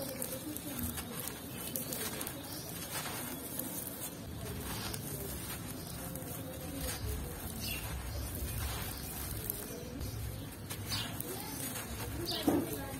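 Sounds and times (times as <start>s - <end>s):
dirt crunching in hands: 0.0s - 12.9s
sand streaming onto ground: 0.0s - 12.9s.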